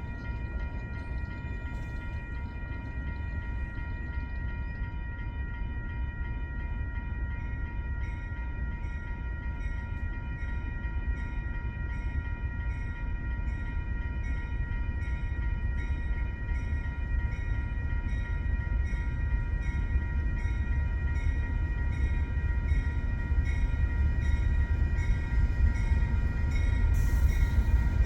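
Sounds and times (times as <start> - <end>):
freight train rumble: 0.0 - 28.0.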